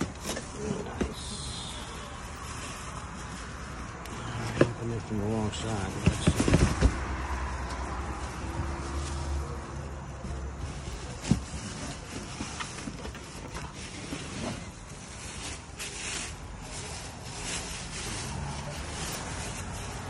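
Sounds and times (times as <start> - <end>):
plastic wrapping rustling: 0.0 - 20.0.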